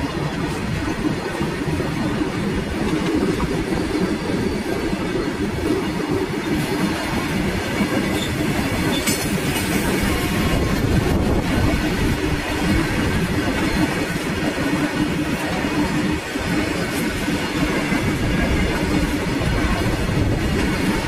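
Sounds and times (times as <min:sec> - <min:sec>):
steel wheels running on rails: 0:00.0 - 0:21.0.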